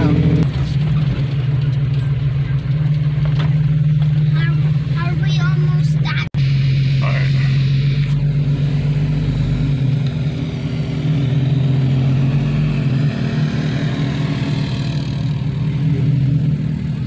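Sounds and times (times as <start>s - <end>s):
car engine drone: 0.0s - 17.0s
tyre and road noise: 0.0s - 17.0s.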